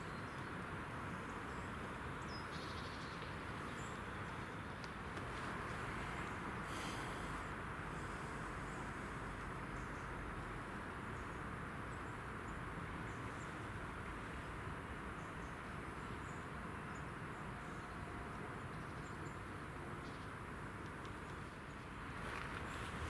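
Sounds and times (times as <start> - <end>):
outdoor hiss with low rumble: 0.0 - 23.0.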